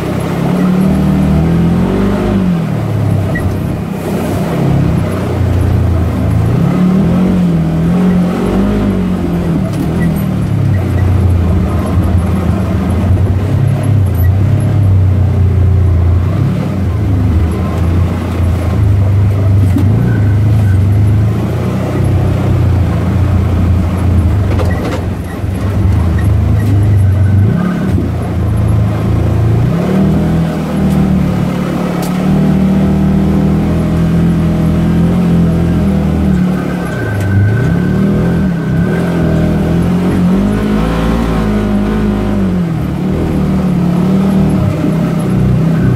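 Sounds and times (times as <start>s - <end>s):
utility vehicle engine running: 0.0s - 45.9s.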